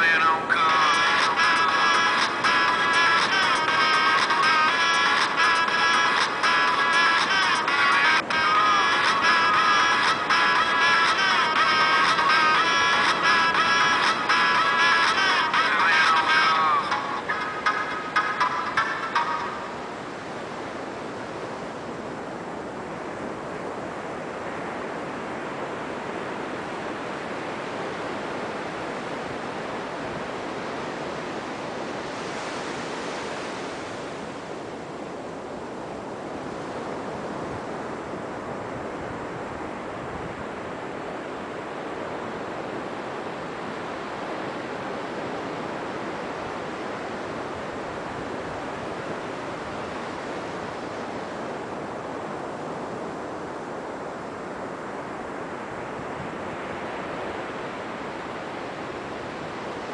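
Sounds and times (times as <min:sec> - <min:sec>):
ocean surf on a beach: 0:00.0 - 0:59.9.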